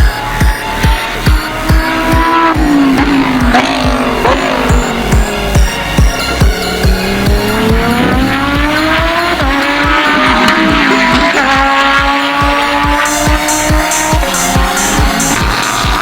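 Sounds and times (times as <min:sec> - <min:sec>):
background music with steady beat: 0:00.0 - 0:16.0
car engine accelerating hard: 0:00.0 - 0:16.0.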